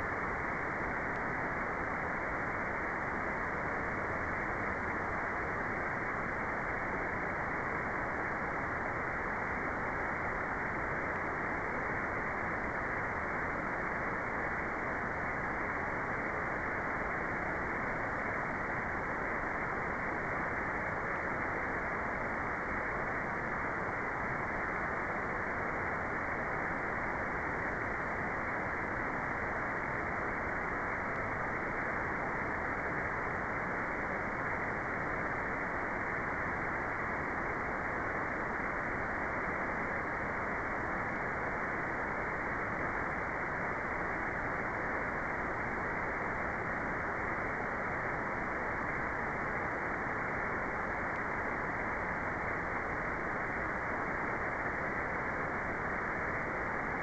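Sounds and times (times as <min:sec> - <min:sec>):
dull white noise rush: 0:00.0 - 0:57.0.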